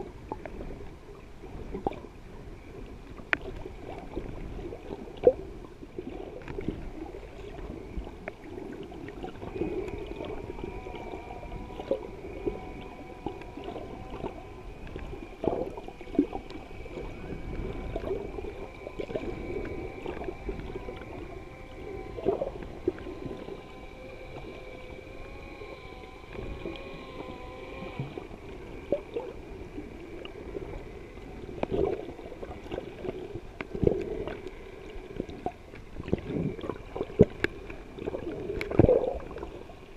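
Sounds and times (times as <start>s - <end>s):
underwater water wash: 0.0s - 39.9s
wavering multi-tone hum: 0.0s - 39.9s.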